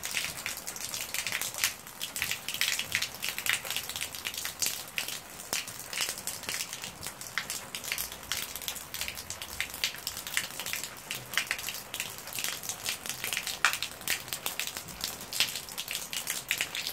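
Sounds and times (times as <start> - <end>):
rain falling: 0.0 - 16.9
raindrops tapping hard surfaces: 0.0 - 16.9.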